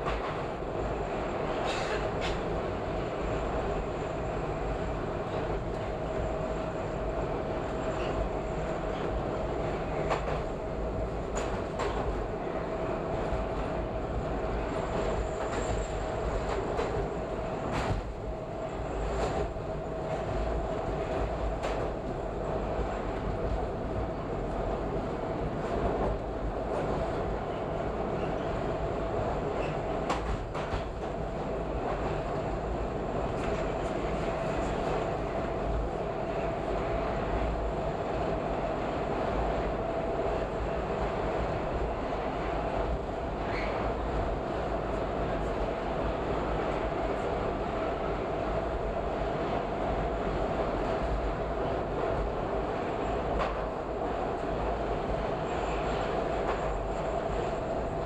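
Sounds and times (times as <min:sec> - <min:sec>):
subway train rumbling in a tunnel: 0:00.0 - 0:58.0.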